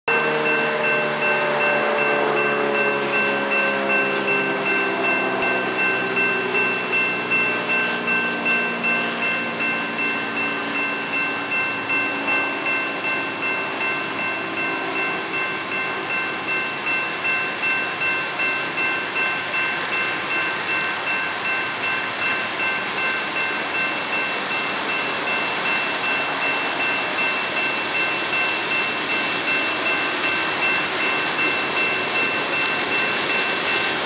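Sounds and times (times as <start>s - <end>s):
railroad crossing bell ringing: 0.1s - 34.0s
train engine and wheel noise: 0.1s - 34.0s.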